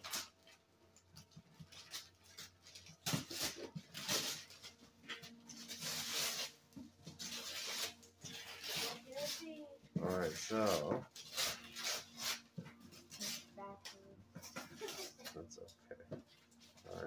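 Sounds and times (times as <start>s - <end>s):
wrapping paper ripping and crinkling: 0.0s - 15.4s, 16.5s - 17.0s.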